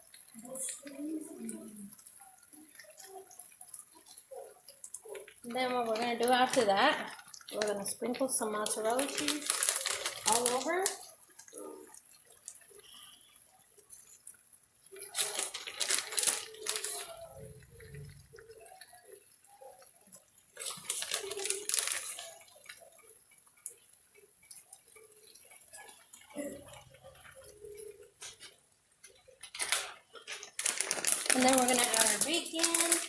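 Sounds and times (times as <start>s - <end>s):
crinkling and rustling: 0.0s - 33.0s.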